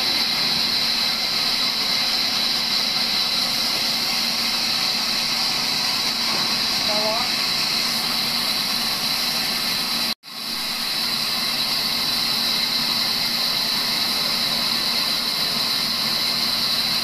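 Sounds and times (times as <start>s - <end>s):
band saw cutting a log: 0.0s - 17.0s.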